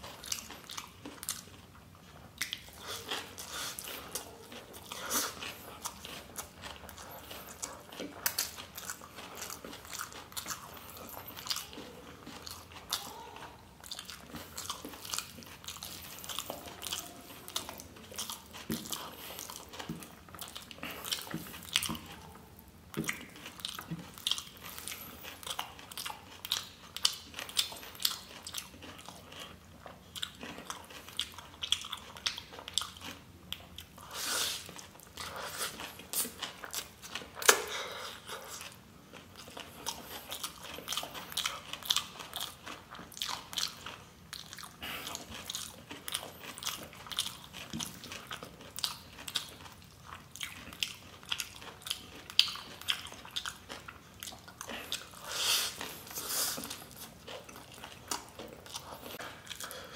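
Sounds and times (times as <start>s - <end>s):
wet chewing of noodles: 0.0s - 59.9s.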